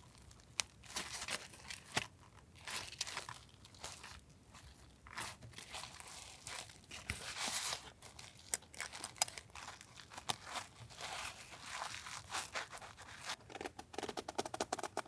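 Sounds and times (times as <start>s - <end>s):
packaging crinkling: 0.1s - 13.8s.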